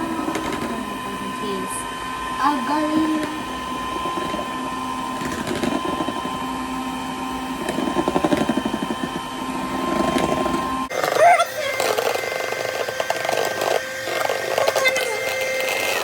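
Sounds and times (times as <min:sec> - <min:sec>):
electric hand mixer whipping: 0:00.0 - 0:16.0.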